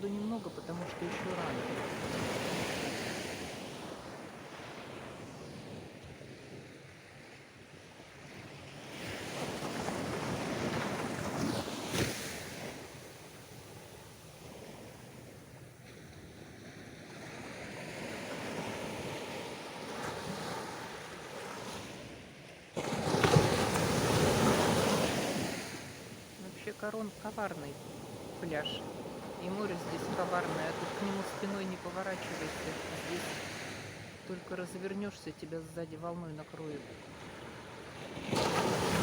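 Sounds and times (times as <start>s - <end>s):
sea surf breaking on beach: 0.0s - 6.6s, 8.4s - 35.4s, 36.7s - 39.0s.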